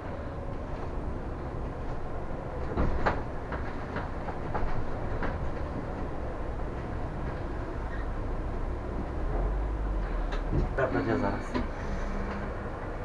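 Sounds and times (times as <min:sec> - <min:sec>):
bus engine and tyres rumbling: 0:00.0 - 0:13.0.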